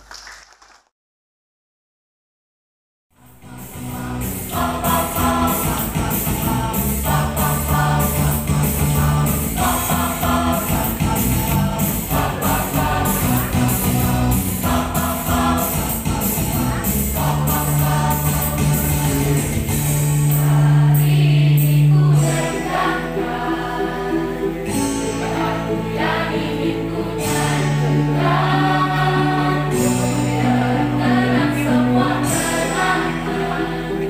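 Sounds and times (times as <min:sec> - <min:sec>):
mixed choir singing: 0:03.2 - 0:34.0.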